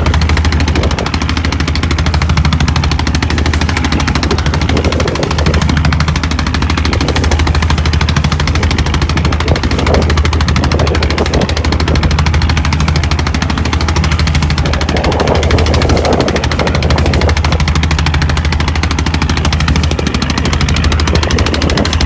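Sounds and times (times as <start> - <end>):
boat diesel engine chugging: 0.0 - 22.0
rushing noise: 0.0 - 22.0.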